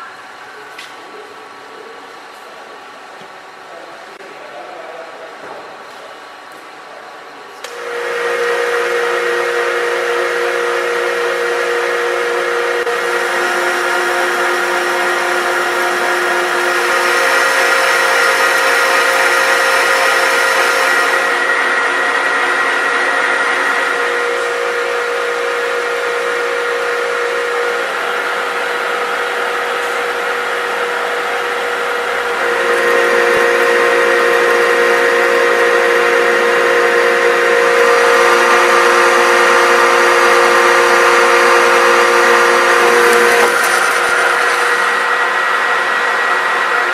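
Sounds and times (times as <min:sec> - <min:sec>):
metal lathe running: 0:07.7 - 0:46.9.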